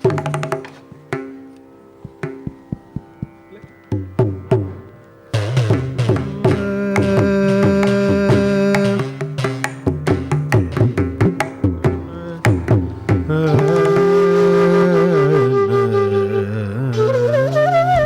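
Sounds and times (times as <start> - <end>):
ringing hand drum strokes: 0.0 - 14.7.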